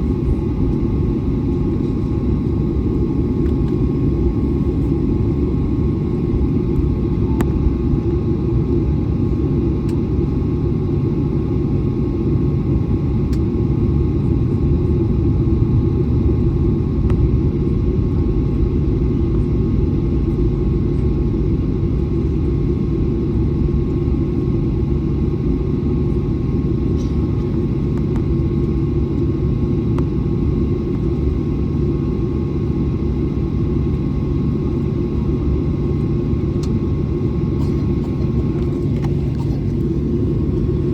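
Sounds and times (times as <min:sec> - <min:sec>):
jet airliner taxiing rumble: 0:00.0 - 0:40.9.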